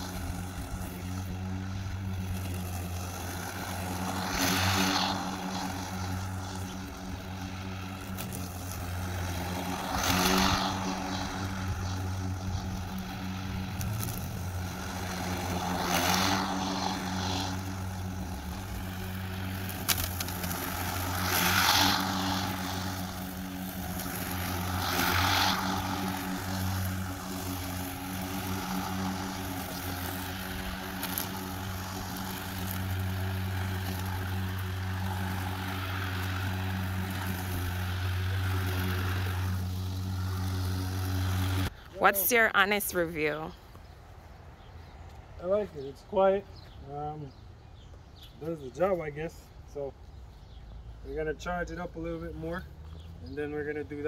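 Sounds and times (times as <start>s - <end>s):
electric lawn mower cutting grass: 0.0s - 46.8s, 47.4s - 54.0s.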